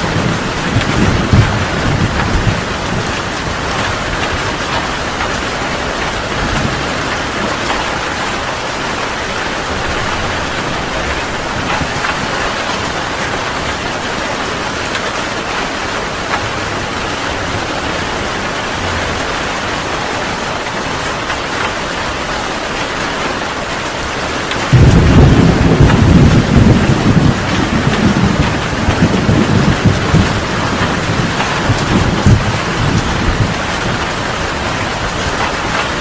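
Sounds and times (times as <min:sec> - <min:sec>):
thunder clap and rumble: 0:00.0 - 0:23.4, 0:24.0 - 0:36.0
heavy rain falling: 0:00.0 - 0:36.0.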